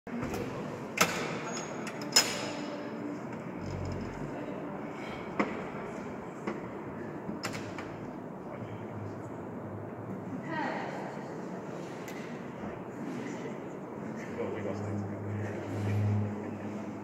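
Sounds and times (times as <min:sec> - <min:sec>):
murmur of voices: 0:00.1 - 0:17.0.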